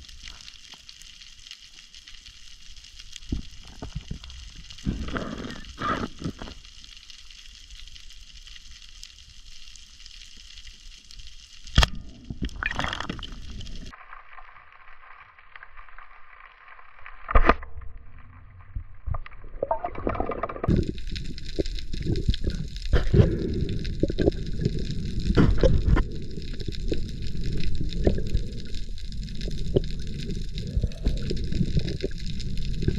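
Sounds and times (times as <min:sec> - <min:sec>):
water sloshing underwater: 0:00.0 - 0:14.1, 0:17.2 - 0:32.9.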